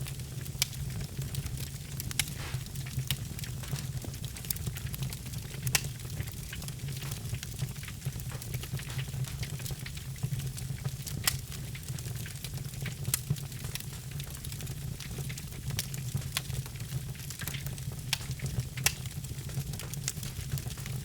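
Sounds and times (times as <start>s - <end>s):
logs crackling and popping: 0.0s - 21.0s.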